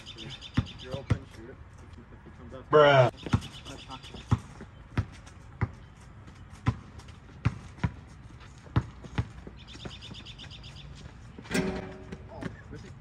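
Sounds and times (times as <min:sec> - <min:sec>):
basketball bouncing on asphalt: 0:00.4 - 0:01.5, 0:03.1 - 0:13.0.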